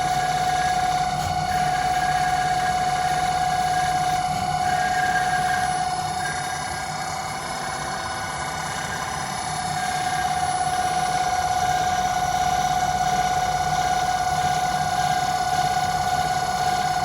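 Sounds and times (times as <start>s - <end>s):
lathe motor whine: 0.0s - 17.0s.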